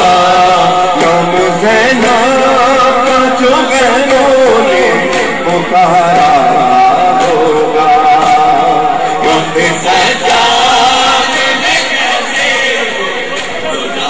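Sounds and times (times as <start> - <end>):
man chanting into a microphone: 0.0 - 14.0
sharp rhythmic beats: 0.0 - 14.0.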